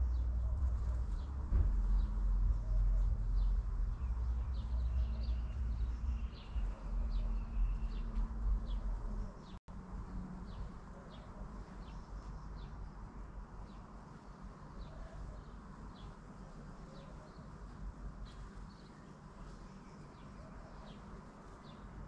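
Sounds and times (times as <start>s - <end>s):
small birds chirping: 0.0s - 9.6s, 10.4s - 22.0s
low rumble and hum: 0.0s - 21.2s.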